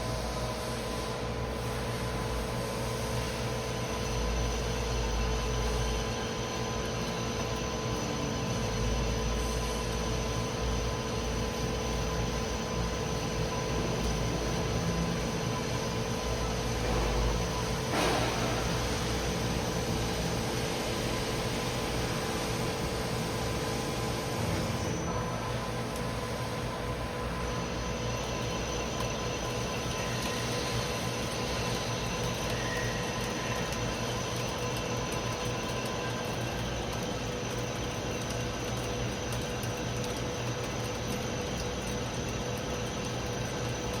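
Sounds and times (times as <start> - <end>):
lathe machine hum and hiss: 0.0 - 44.0.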